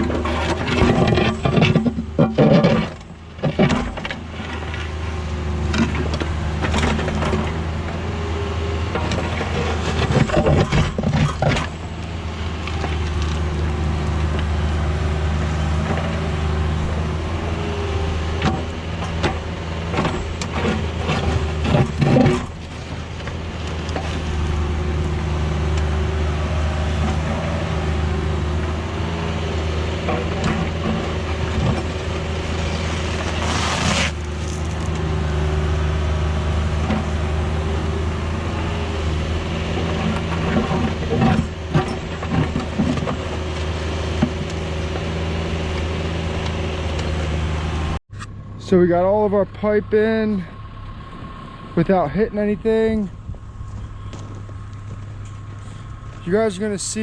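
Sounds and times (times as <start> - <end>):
excavator knocking and scraping: 0.0 - 48.5
diesel engine running: 0.0 - 57.0.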